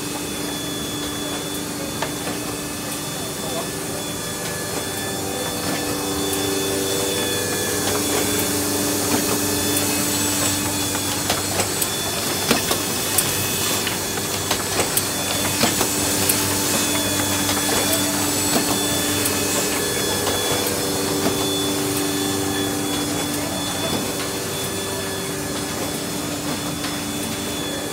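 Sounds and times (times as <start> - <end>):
machine hum with held tones: 0.0 - 27.9.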